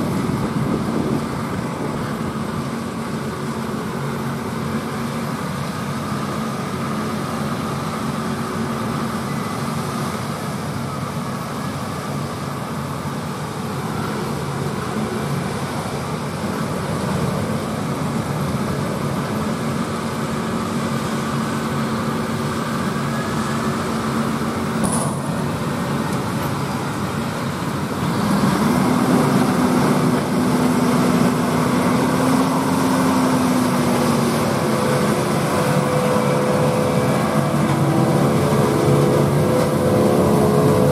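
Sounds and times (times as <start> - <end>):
tractor diesel engines: 0.0 - 40.9.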